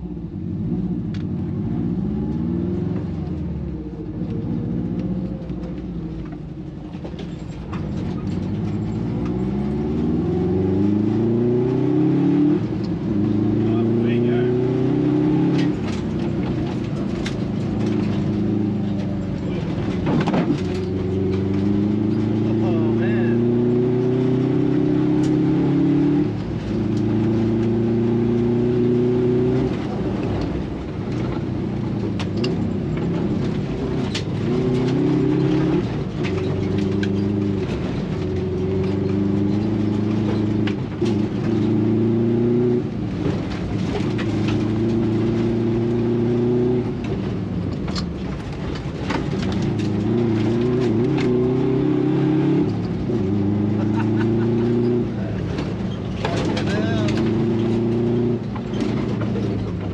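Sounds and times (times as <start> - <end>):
car engine revving through gears: 0.0 - 59.9.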